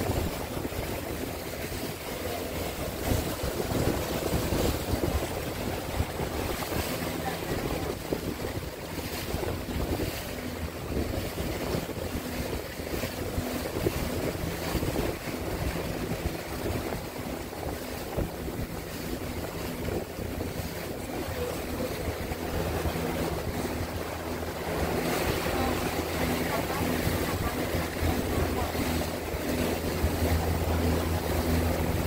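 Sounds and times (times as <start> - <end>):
motorboat engine humming: 0.0 - 32.0
rushing wind and water: 0.0 - 32.0
wind buffeting microphone: 0.0 - 32.0.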